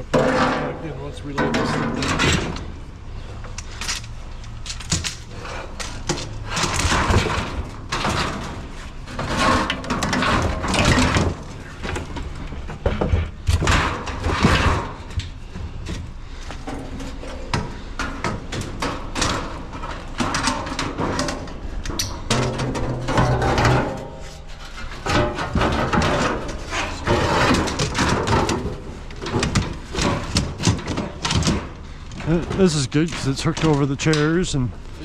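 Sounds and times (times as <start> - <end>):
metal clunks and knocks: 0.0 - 34.3.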